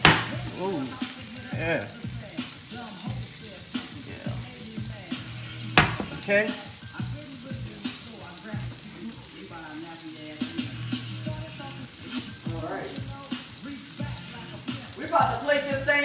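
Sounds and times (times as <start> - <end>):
background music: 0.0 - 16.0
vegetables sizzling in skillet: 0.0 - 16.0.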